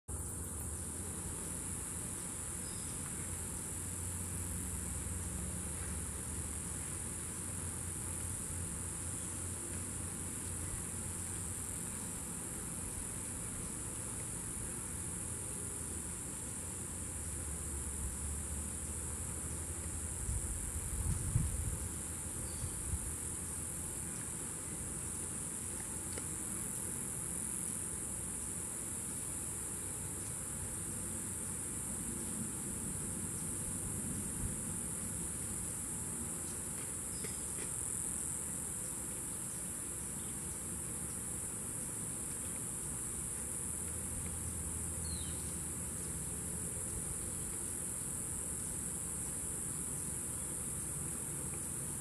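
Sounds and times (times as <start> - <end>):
insects chorus: 0.1 - 52.0.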